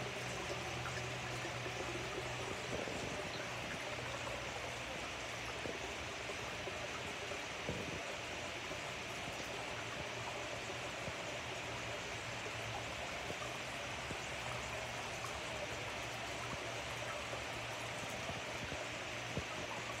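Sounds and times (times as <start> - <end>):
low steady hum: 0.0 - 20.0
pond water trickling and bubbling: 0.0 - 20.0.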